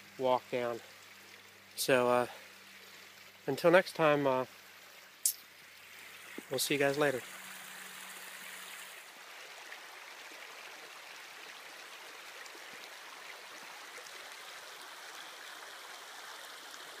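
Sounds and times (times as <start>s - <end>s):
creek babbling over stones: 0.0s - 17.0s.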